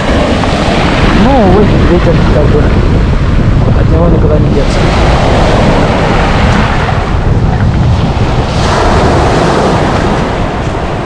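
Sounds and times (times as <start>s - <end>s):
surf washing onto shore: 0.0s - 11.0s
wind buffeting microphone: 0.0s - 11.0s.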